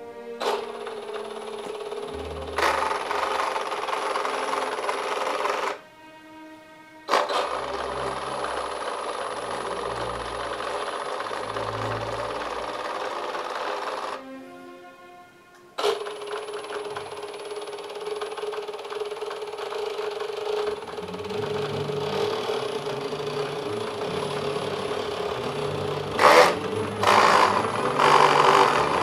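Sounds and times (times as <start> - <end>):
small electric motor whine: 0.4 - 14.4, 15.8 - 29.0.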